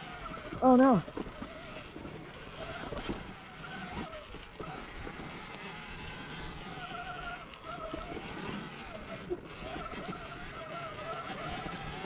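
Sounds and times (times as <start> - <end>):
electric motor whining: 0.0 - 12.0
tyres on wet trail: 0.0 - 12.0.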